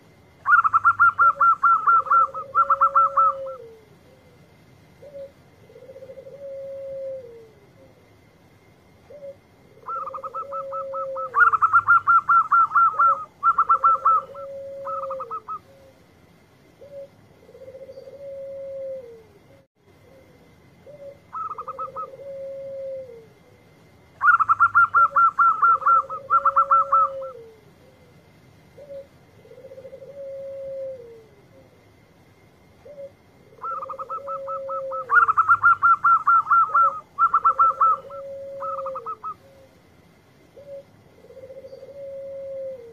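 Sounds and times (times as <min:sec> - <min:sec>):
low falling dove coo: 0:00.0 - 0:08.4, 0:09.0 - 0:16.1, 0:16.8 - 0:32.0, 0:32.8 - 0:42.9
faint steady high tone: 0:00.0 - 0:42.9
dove stuttering coos: 0:00.4 - 0:08.2, 0:09.0 - 0:16.1, 0:16.8 - 0:32.0, 0:32.8 - 0:39.9, 0:40.5 - 0:42.9.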